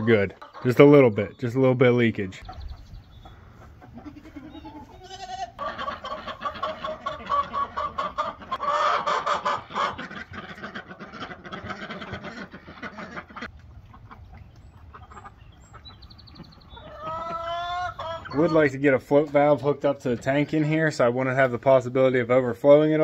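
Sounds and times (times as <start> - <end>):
chickens clucking and cackling: 0.0 - 21.5.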